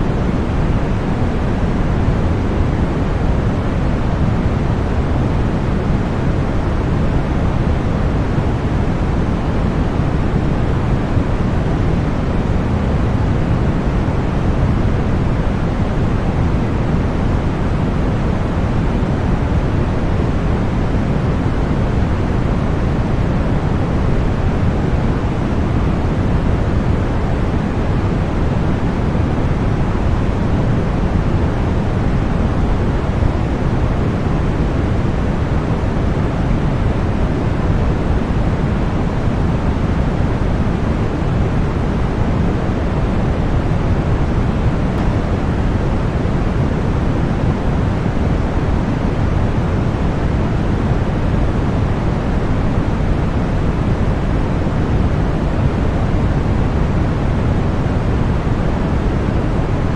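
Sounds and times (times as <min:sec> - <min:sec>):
deep white noise hiss: 0:00.0 - 0:59.9.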